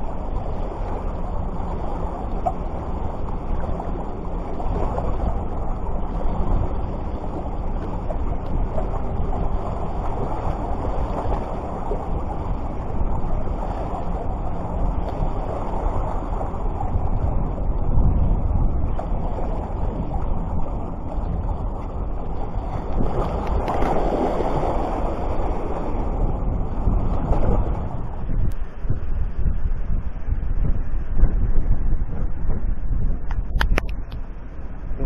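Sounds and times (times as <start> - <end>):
sea surf: 0.0 - 32.6
wind on microphone: 0.0 - 35.0.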